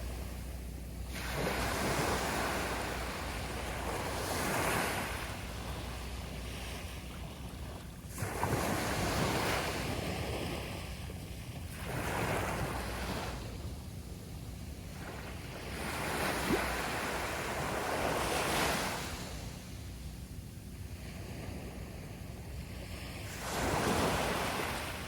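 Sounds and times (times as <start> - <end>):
waves washing onto beach: 0.0 - 13.8, 14.8 - 19.7, 20.9 - 25.0
steady low rumble: 0.0 - 23.5.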